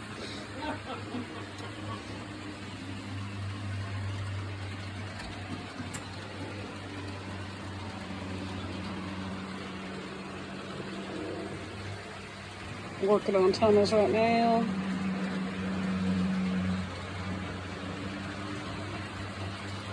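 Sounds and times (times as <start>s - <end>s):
model train humming and whirring: 0.0s - 19.9s.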